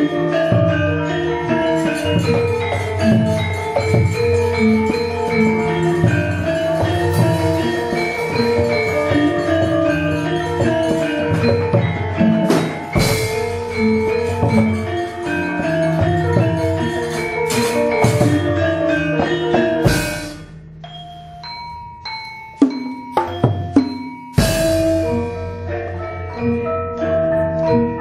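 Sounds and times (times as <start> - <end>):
drum strokes: 0.0 - 26.5
metallophone notes: 0.0 - 28.0.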